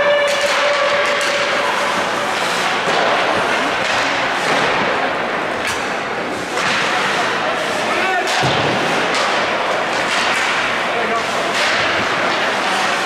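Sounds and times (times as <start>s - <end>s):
arena noise: 0.0s - 13.0s
hockey sticks and puck knocking: 0.0s - 13.0s.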